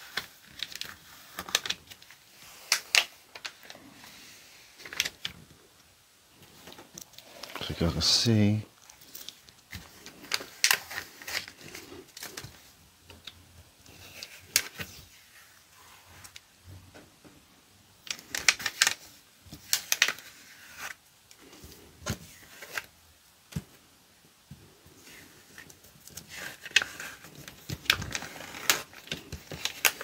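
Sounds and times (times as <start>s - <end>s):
vinyl peeling crackling and ticking: 0.0s - 4.0s, 4.7s - 16.6s, 17.9s - 23.8s, 24.4s - 30.0s.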